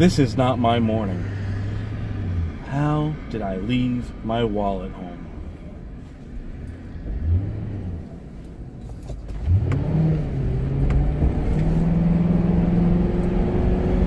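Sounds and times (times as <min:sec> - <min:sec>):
car engine from inside cabin: 0:00.0 - 0:14.0.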